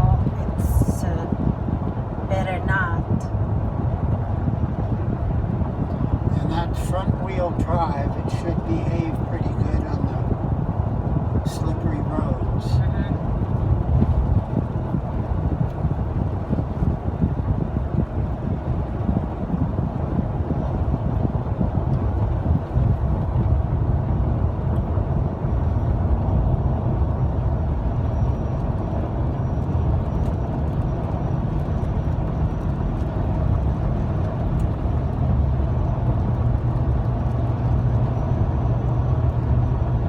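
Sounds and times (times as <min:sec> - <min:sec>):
car driving road noise: 0:00.0 - 0:40.0.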